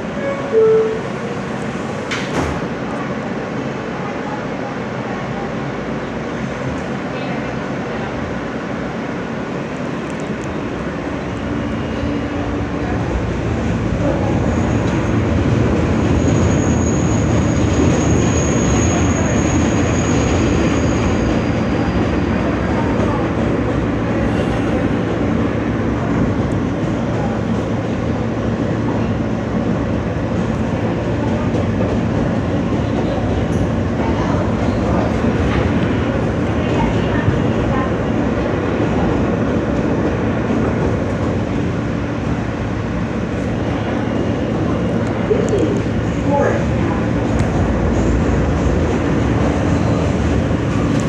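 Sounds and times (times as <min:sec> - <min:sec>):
subway wheels rumbling on rail: 0:00.0 - 0:51.0.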